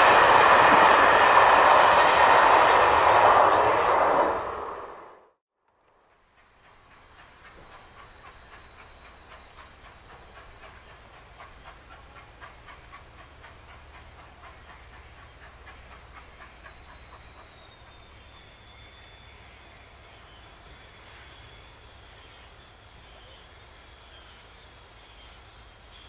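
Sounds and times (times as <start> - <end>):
steam locomotive exhaust chuffing: 0.0 - 5.3, 5.9 - 26.0.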